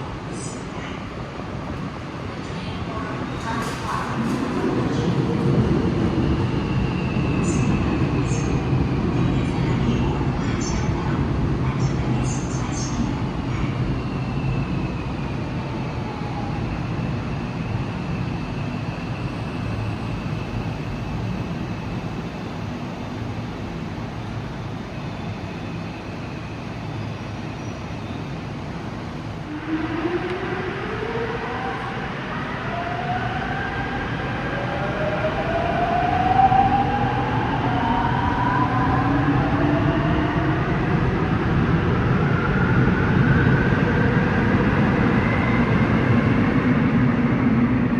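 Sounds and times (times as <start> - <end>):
subway train running rumble: 0.0 - 47.9.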